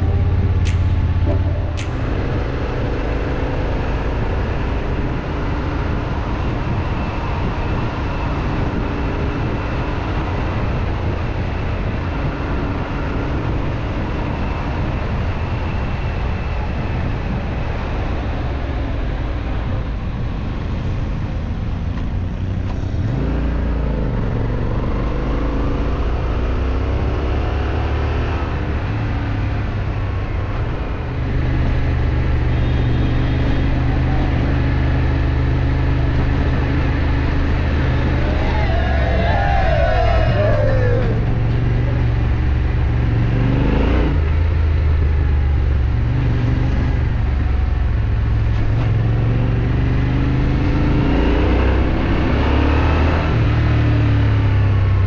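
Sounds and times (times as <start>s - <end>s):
rush of noise: 0.0s - 21.2s, 22.8s - 55.0s.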